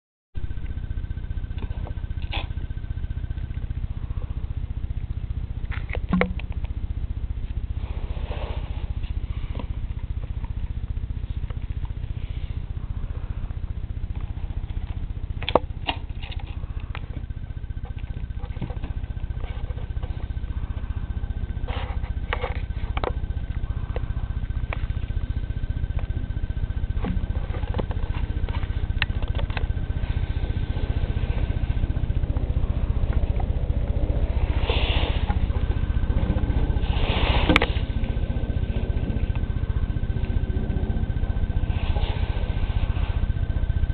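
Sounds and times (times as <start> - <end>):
steady low rumble: 0.4 - 43.9.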